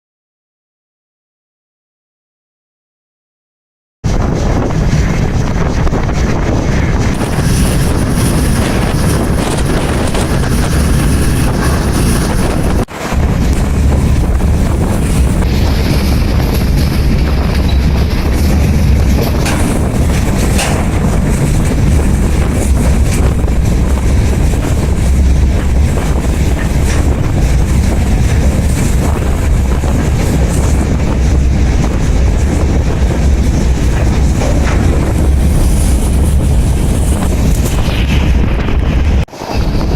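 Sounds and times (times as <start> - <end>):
wind buffeting microphone: 4.0 - 39.9
freight train rumbling: 4.1 - 39.9.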